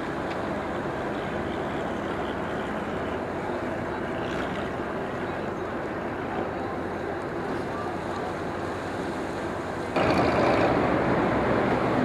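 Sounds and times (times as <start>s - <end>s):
ferry engines running: 0.0s - 12.0s.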